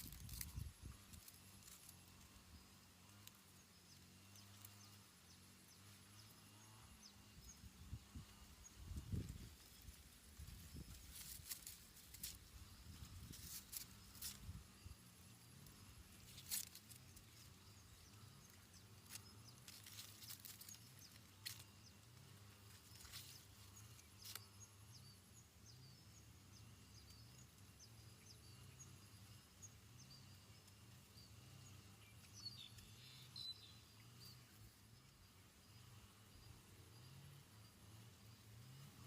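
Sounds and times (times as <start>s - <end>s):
faint bird chirps: 0.0s - 39.0s.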